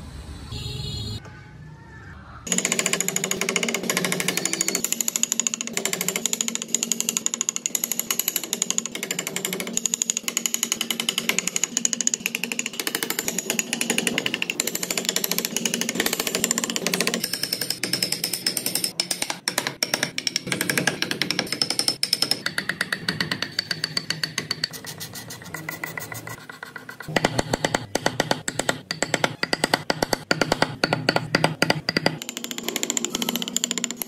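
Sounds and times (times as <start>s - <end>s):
power carving tool hammering rattle: 2.5s - 24.9s, 25.6s - 34.0s.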